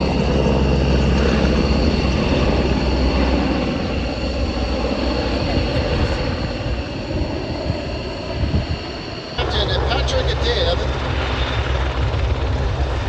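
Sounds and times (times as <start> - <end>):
airplane flying past: 0.0 - 13.0.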